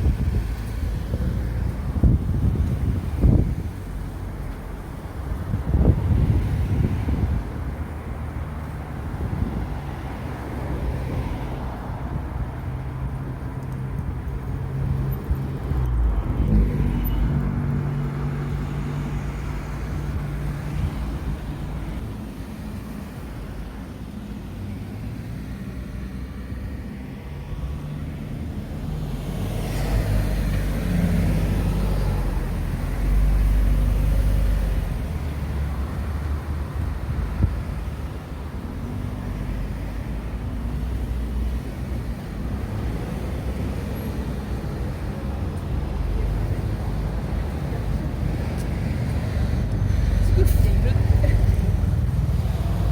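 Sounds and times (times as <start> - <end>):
vehicle engines humming: 0.0 - 52.9.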